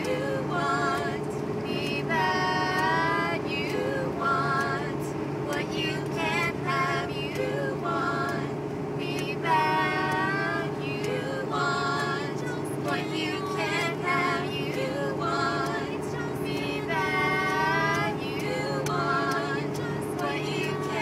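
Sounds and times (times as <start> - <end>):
car driving drone: 0.0 - 21.0
person singing vocal warm-ups: 0.0 - 21.0.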